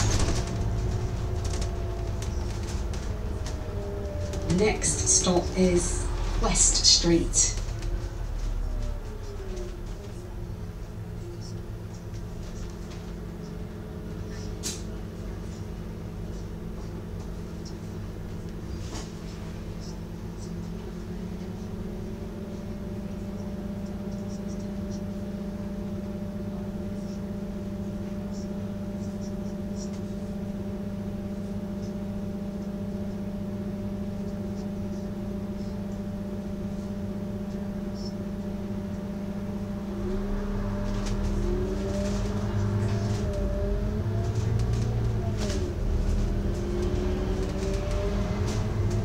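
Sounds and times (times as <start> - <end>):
bus engine idling: 0.0 - 49.0.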